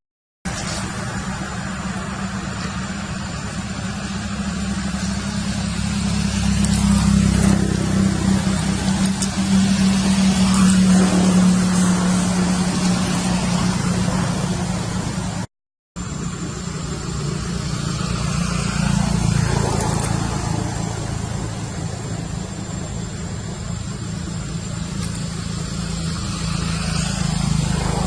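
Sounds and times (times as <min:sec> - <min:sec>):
vehicle engine humming: 0:00.4 - 0:28.0.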